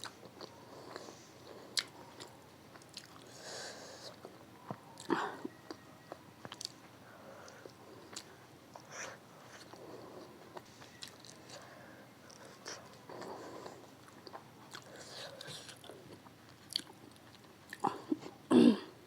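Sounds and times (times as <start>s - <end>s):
person chewing food: 0.0s - 18.4s.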